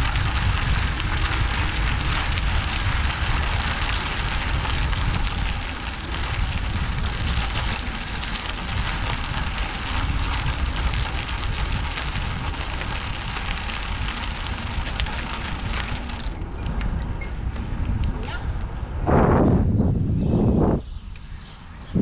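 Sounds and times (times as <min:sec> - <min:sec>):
bicycle tyres on gravel: 0:00.0 - 0:21.9
wind on microphone: 0:00.0 - 0:22.0.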